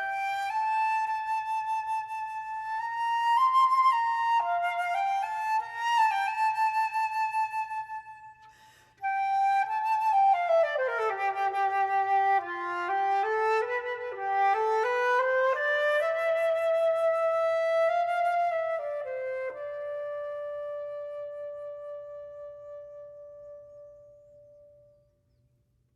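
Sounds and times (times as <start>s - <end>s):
flute playing slow melody: 0.0s - 24.9s.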